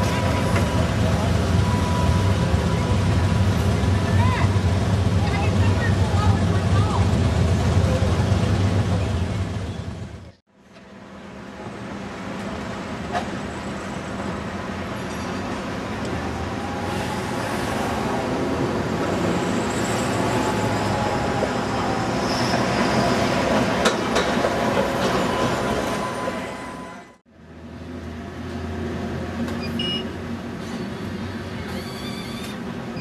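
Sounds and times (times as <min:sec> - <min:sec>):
street traffic: 0:00.0 - 0:33.0
streetcar approaching on tracks: 0:00.0 - 0:33.0.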